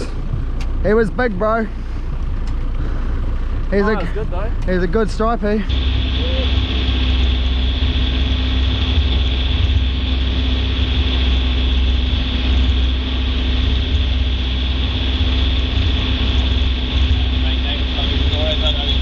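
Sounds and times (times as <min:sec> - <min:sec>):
boat engine droning: 0:00.0 - 0:19.0
steady hum: 0:00.0 - 0:19.0.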